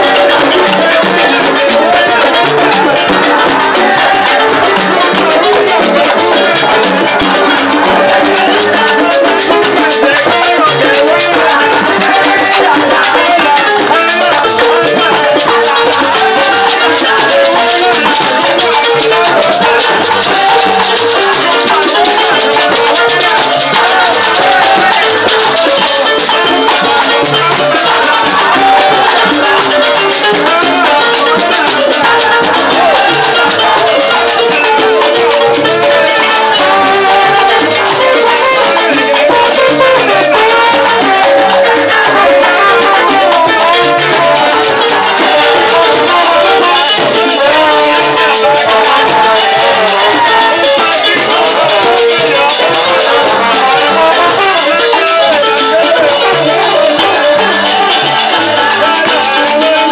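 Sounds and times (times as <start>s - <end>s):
maracas shaking: 0.0s - 59.9s
salsa band playing: 0.0s - 59.9s.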